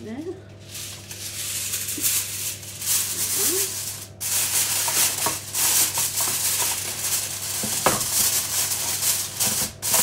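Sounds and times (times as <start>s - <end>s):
aluminium foil crinkling: 0.6s - 10.0s.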